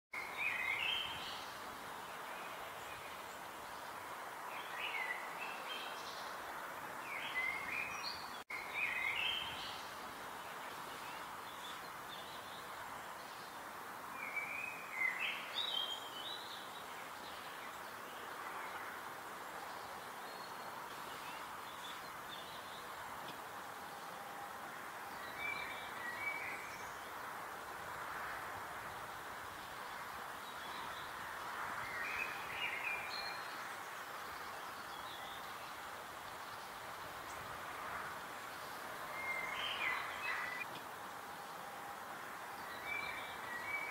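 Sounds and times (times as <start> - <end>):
small birds chirping: 0.2 - 24.2, 29.2 - 41.6
outdoor hiss: 0.2 - 43.9.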